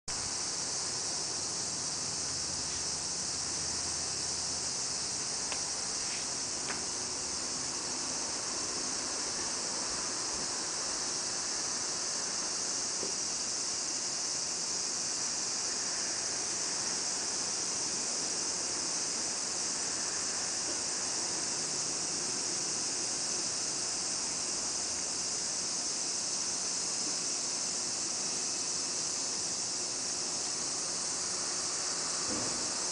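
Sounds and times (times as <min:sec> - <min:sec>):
high-pitched insect chorus: 0:00.1 - 0:32.9.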